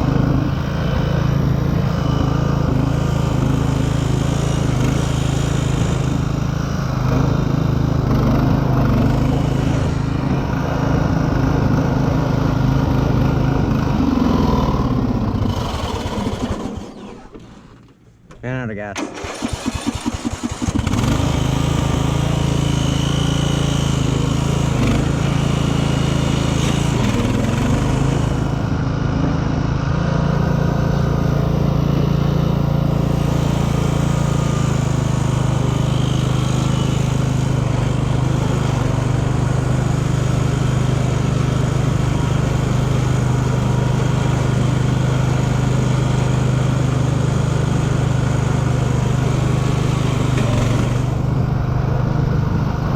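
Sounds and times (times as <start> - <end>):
lawn tractor engine starting: 0.0 - 29.6, 30.3 - 52.9.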